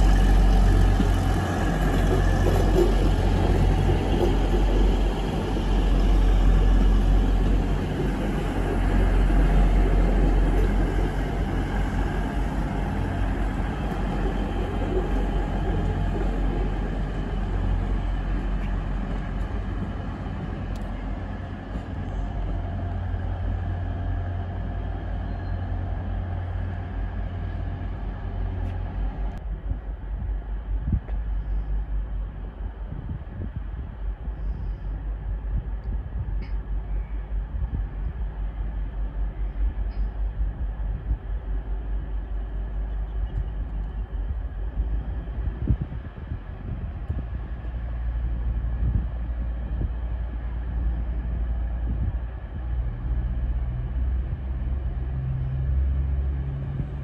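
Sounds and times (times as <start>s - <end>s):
diesel train rumbling past: 0.0s - 57.0s.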